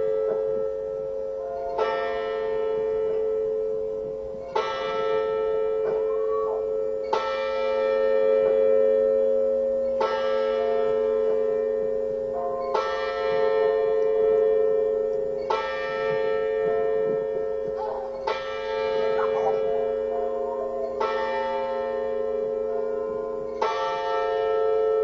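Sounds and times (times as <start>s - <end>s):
church bell tolling: 0.0s - 25.0s.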